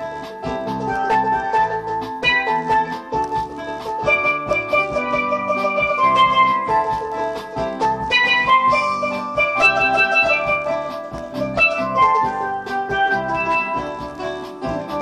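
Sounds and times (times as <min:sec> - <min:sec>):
steel pans playing melody: 0:00.0 - 0:15.0.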